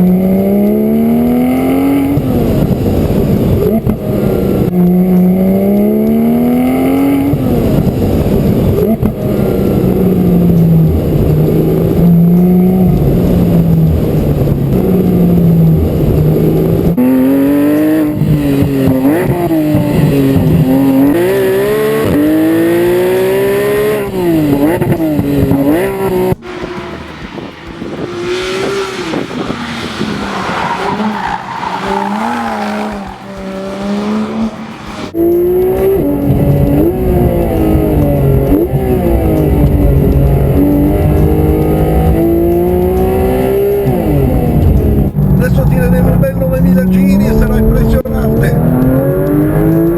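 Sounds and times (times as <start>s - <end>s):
sports car engine revving: 0.0s - 49.9s.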